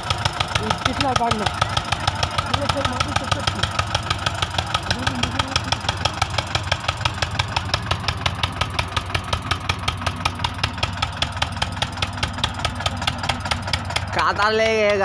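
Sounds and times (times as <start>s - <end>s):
sharp regular engine knock: 0.0s - 15.0s
tractor diesel engine running: 0.0s - 15.0s.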